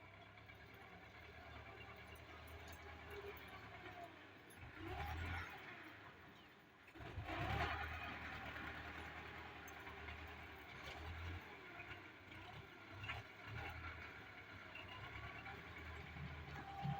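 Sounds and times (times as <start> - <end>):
tractor engine rumbling: 0.0 - 16.9.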